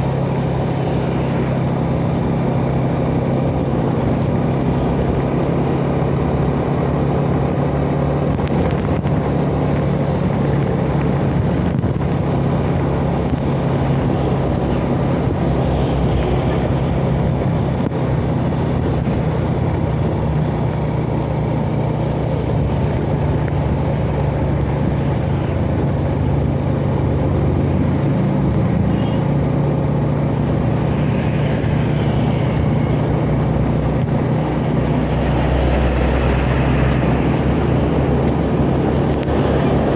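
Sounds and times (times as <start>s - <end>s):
motorcycle engine cruising: 0.0s - 39.9s
road and wind rush: 0.0s - 39.9s.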